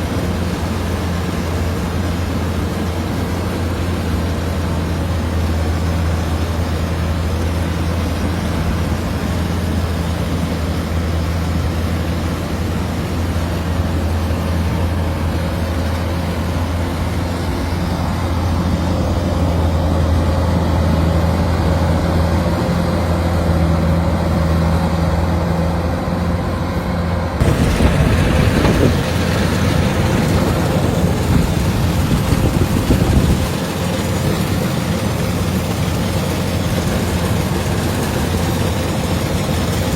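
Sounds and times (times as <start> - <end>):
loud noisy clatter: 0.0 - 24.4, 25.2 - 39.9
combine diesel engine humming: 0.0 - 39.9.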